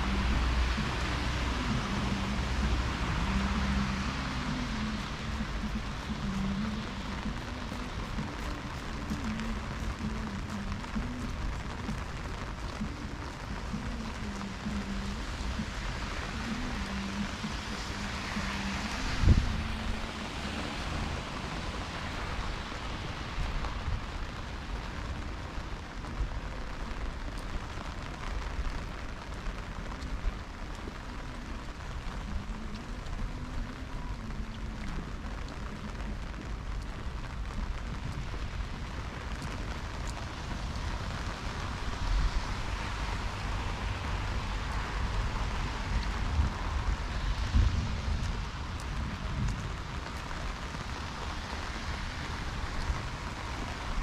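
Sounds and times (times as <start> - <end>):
rain on street: 0.0 - 54.0.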